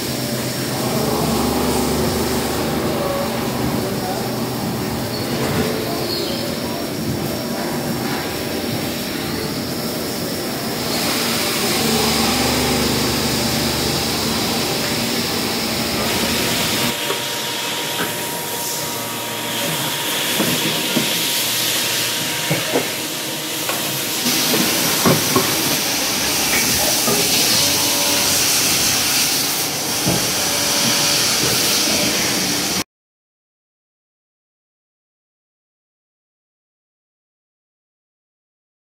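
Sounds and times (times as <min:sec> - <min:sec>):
coolant spraying hiss: 0:00.0 - 0:32.8
milling machine hum: 0:00.0 - 0:32.8.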